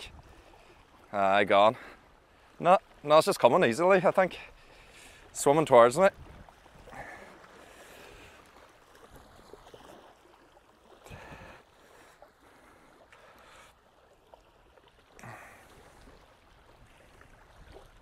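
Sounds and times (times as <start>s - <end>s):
faint wind: 0.0s - 18.0s
small waves lapping: 0.0s - 18.0s.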